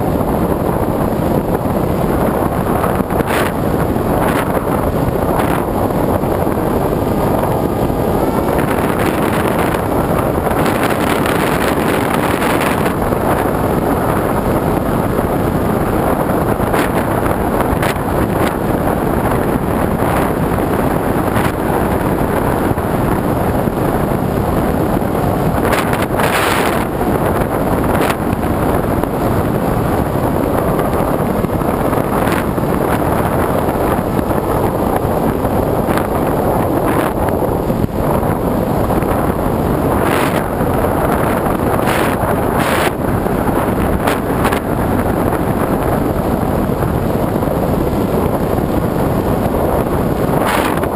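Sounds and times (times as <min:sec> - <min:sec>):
aircraft engine running: 0:00.0 - 0:50.9
wind buffeting microphone: 0:00.0 - 0:50.9.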